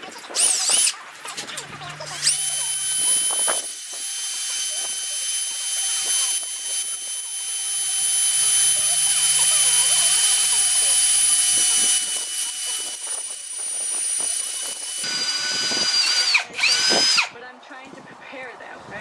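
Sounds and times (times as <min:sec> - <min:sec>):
electric drill whining: 0:01.7 - 0:17.3.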